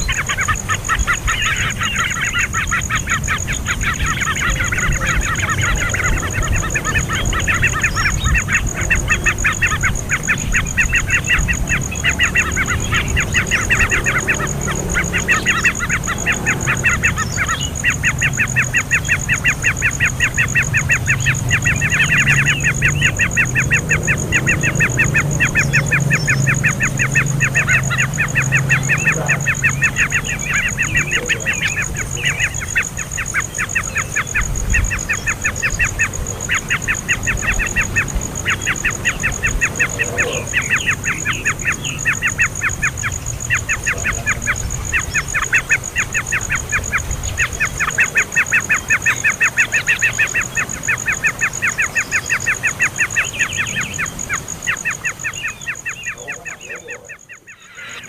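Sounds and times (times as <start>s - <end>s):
young bird chirping: 0.0s - 58.0s.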